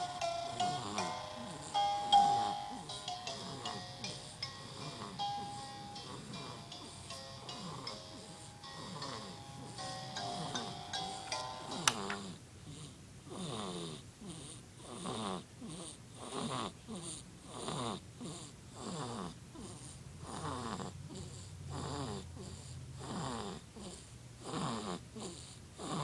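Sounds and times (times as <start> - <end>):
snoring: 0.5 - 9.4, 12.6 - 26.0.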